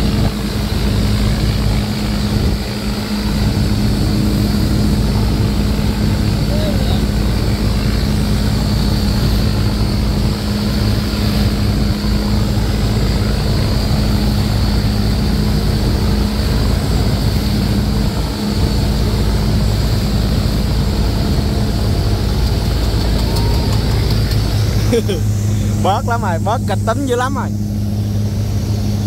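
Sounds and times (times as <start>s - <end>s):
boat engine humming: 0.0s - 29.0s
water rushing: 0.0s - 29.0s
wind: 0.0s - 29.0s.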